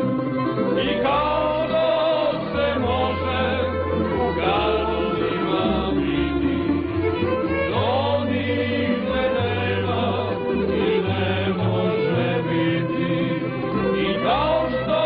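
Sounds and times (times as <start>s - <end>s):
plucked string instruments: 0.0s - 15.0s
steady bass: 0.0s - 15.0s
voices singing together: 0.7s - 15.0s.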